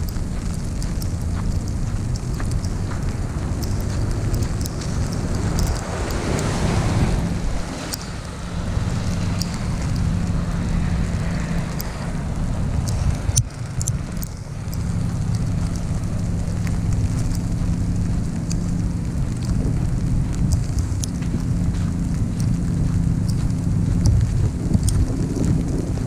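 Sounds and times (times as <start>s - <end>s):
sharp ticks: 0.0s - 26.0s
snowstorm hiss: 0.0s - 26.0s
wind buffeting microphone: 0.0s - 26.0s.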